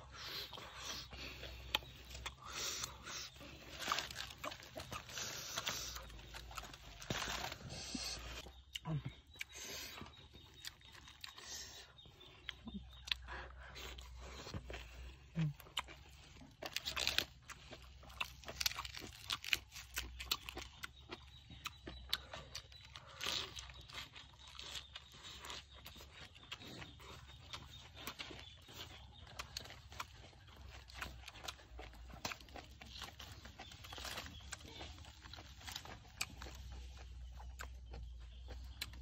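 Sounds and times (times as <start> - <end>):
chewing crunches: 0.0 - 39.0.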